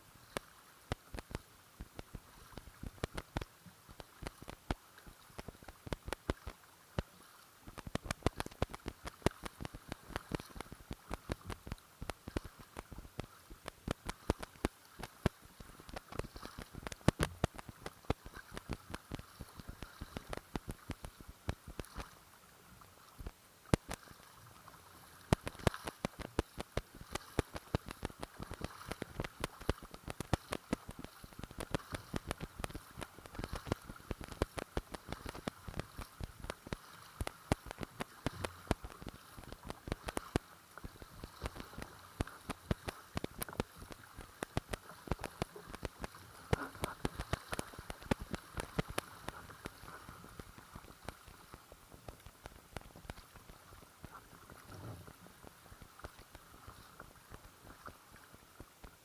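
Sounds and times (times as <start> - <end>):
steady wash of water: 0.0 - 59.0
water splashing against kayak hull: 0.0 - 59.0.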